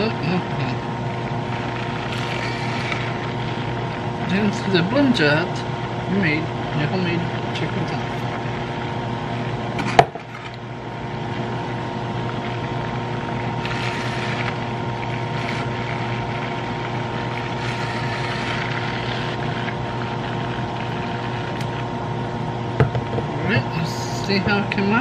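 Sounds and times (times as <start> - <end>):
blender motor running: 0.0 - 22.3.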